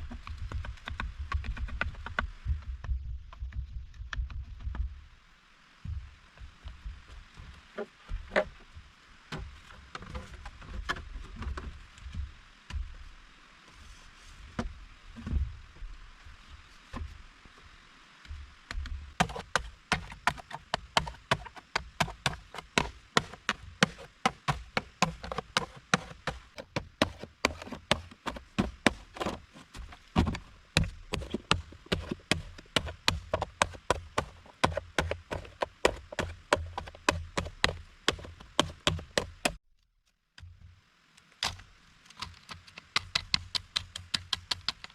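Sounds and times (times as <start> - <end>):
faint steady hiss: 0.0 - 44.9.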